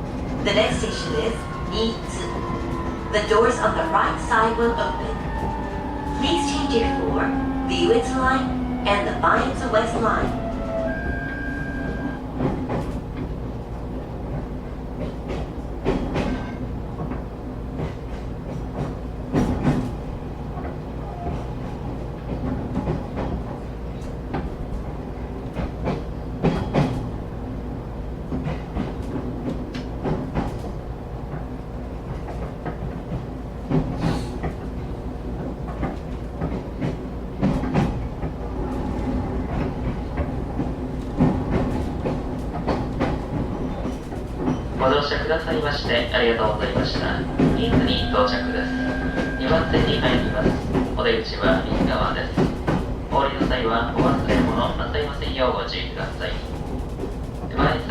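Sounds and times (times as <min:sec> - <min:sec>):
wheels clacking over rail joints: 0:00.0 - 0:27.4, 0:28.2 - 0:55.1
train running rumble: 0:00.0 - 0:57.9.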